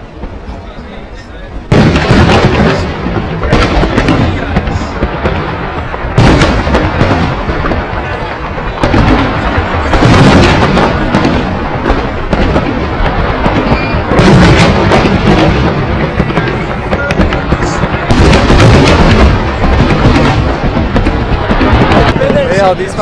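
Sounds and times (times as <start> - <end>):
distant fireworks booms and crackling: 0.0 - 23.0.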